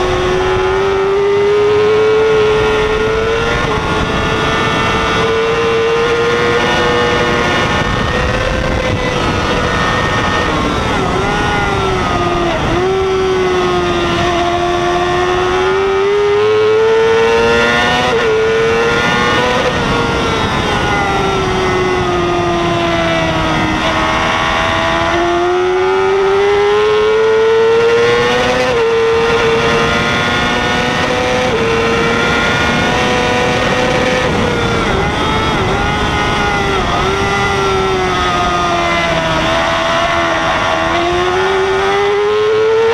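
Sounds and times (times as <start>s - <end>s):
motorcycle engine at high revs: 0.0s - 42.9s
wind rush on microphone: 0.0s - 42.9s.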